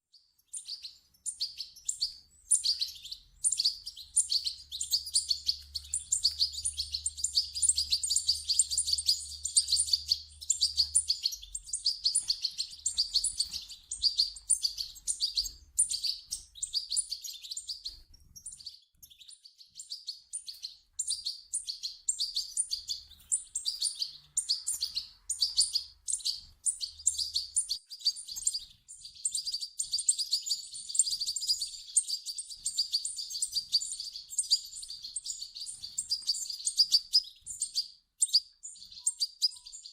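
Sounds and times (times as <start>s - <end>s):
bird chicks cheeping: 0.0s - 39.9s.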